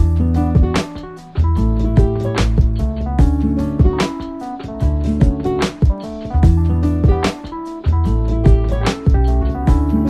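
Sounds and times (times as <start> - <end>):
drum hits: 0.0 - 4.4, 5.2 - 10.0
instrumental background music: 0.0 - 10.0.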